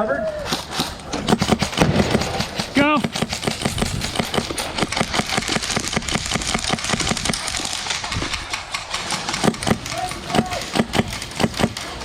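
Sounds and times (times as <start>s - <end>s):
gear rattling: 0.8s - 12.0s.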